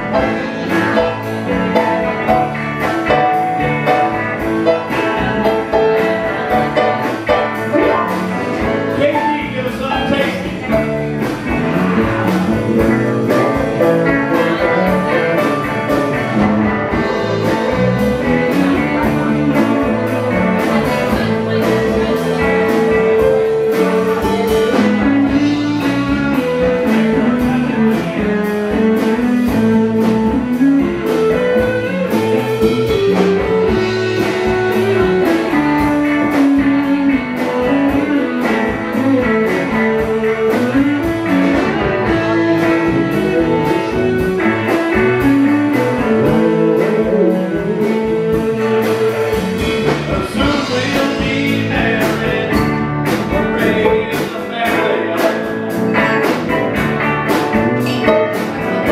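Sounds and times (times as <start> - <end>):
electric guitars: 0.0 - 58.9
organ keyboard: 0.0 - 58.9
steady drum beat: 0.0 - 58.9.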